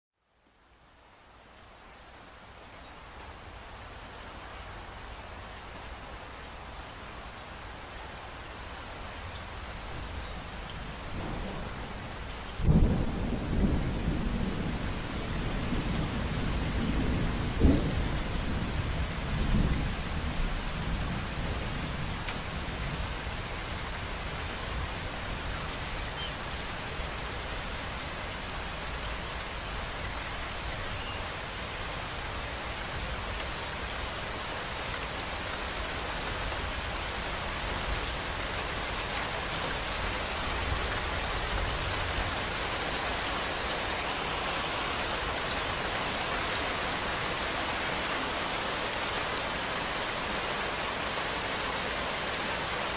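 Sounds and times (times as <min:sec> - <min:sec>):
steady rainfall: 0:00.2 - 0:52.9.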